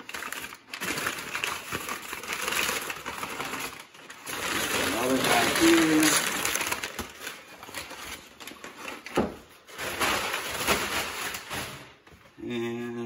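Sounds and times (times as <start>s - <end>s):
packing paper crumpling: 0.0s - 12.0s.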